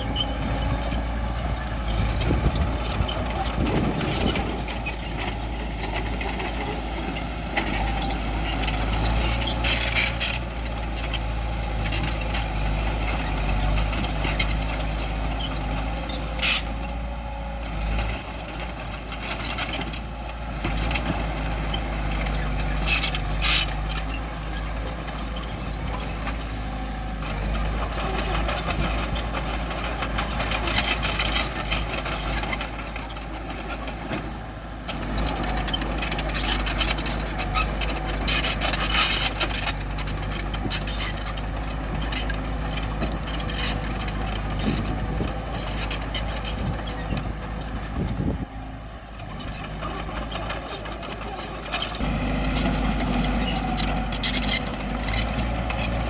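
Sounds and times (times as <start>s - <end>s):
clanks and scrapes on rocks: 0.0s - 48.4s, 49.2s - 56.0s
bulldozer diesel engine running: 0.0s - 56.0s.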